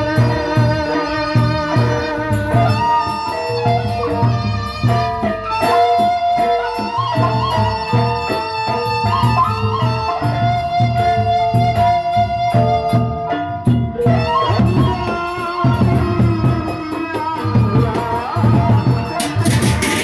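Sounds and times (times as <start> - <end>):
reedy wavering melody: 0.0 - 20.0.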